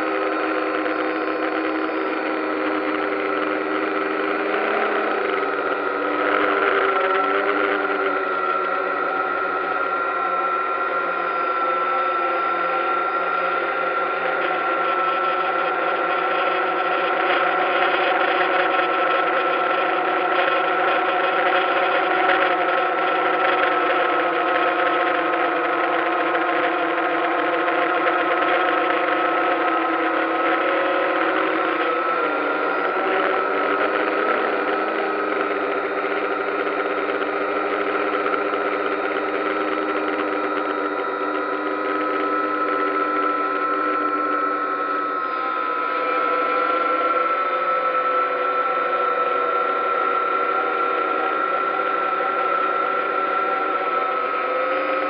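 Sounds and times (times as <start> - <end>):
drone propellers whining: 0.0 - 55.0.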